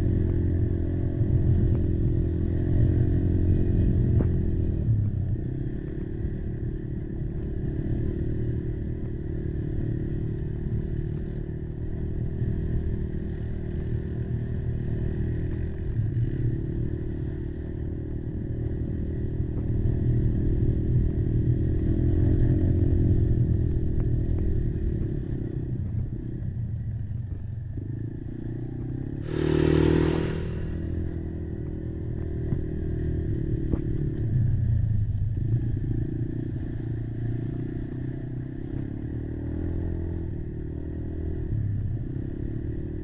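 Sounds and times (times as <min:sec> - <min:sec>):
quad engine running: 0:00.0 - 0:43.0.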